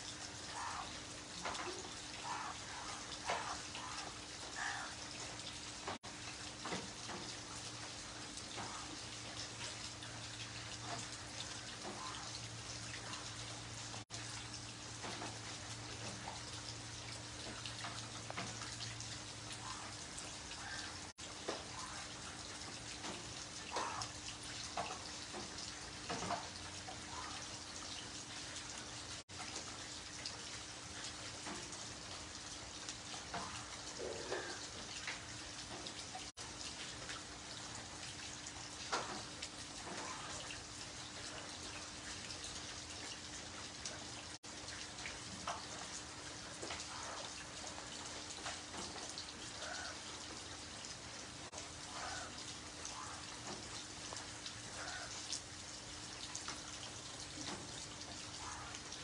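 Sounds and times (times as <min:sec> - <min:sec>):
heavy rain on pavement: 0:00.0 - 0:59.0
drops splashing: 0:00.2 - 0:59.0.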